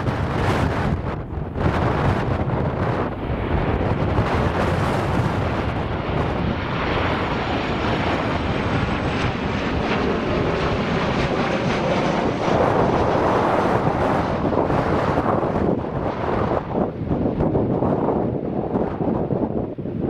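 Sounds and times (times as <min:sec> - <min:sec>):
jet engines roaring: 0:00.0 - 0:20.0
wind buffeting microphone: 0:00.0 - 0:20.0.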